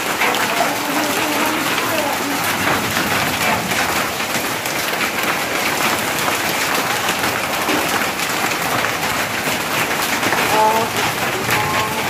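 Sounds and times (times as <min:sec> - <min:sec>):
hail and rain pelting: 0:00.0 - 0:12.0.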